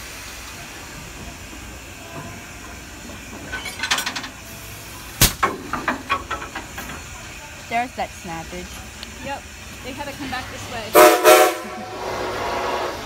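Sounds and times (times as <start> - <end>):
steam locomotive venting steam: 0.0 - 13.0.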